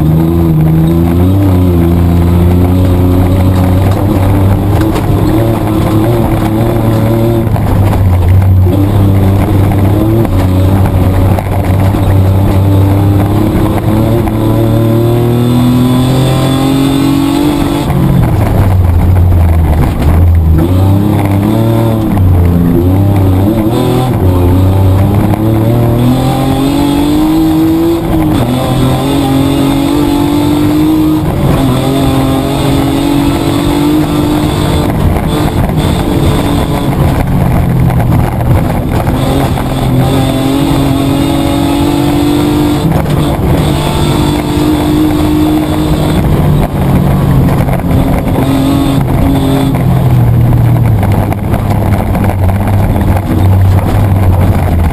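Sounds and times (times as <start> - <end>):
petrol engine revving: 0.0 - 54.9.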